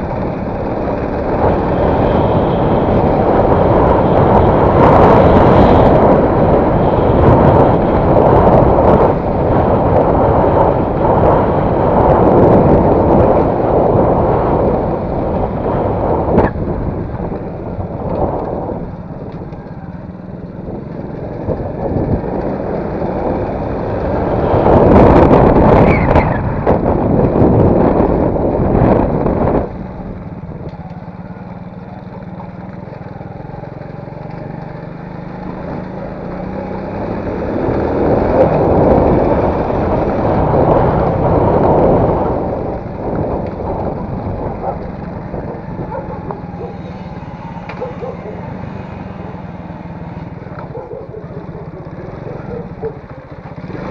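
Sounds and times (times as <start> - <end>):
motor vehicle running: 0.0 - 53.9.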